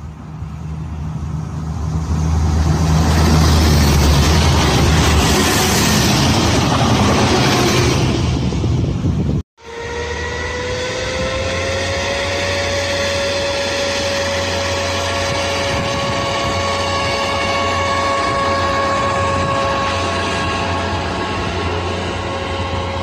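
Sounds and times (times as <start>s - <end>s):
railcar engine whine accelerating: 0.0s - 23.0s
railcars passing at speed: 0.0s - 23.0s.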